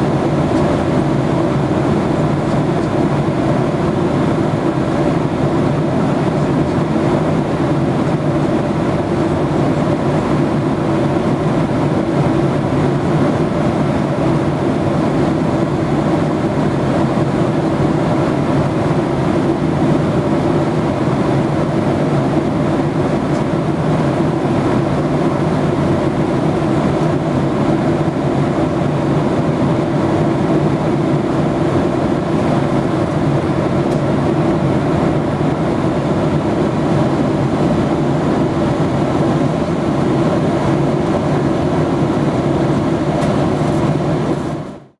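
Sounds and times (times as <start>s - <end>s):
jet engines humming: 0.0s - 44.9s.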